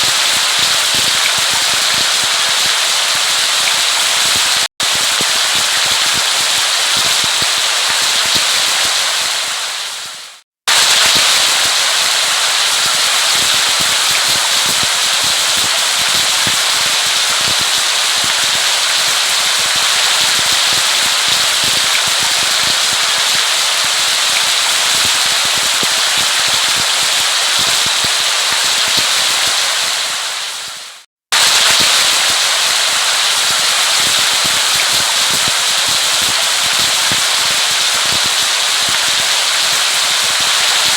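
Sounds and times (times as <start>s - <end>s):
heavy rain with drop impacts: 0.0s - 40.9s.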